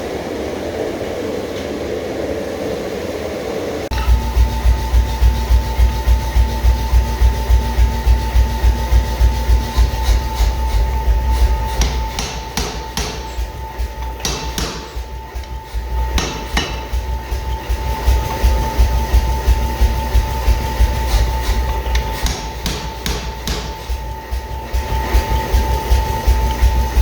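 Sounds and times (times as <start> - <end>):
power hammer blows: 3.9 - 27.0
sharp metallic clanks: 3.9 - 27.0.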